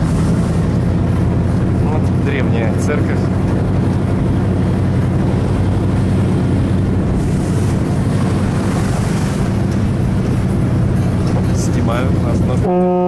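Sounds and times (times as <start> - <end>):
wind buffeting microphone: 0.0 - 12.8
vehicle engine running: 0.0 - 13.0.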